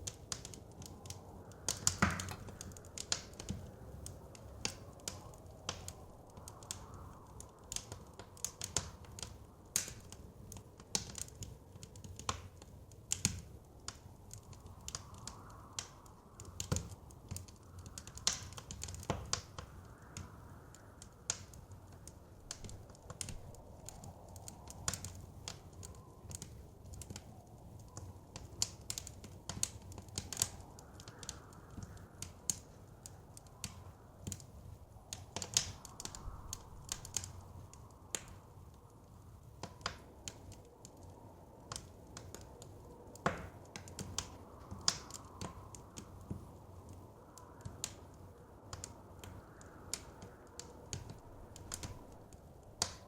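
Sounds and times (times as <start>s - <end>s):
blizzard wind: 0.0s - 53.0s
wood fire crackling: 0.0s - 53.0s.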